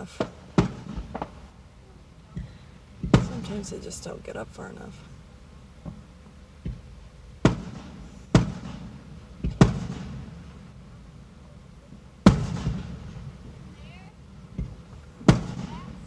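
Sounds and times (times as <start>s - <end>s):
fireworks bangs echoing: 0.0s - 16.0s.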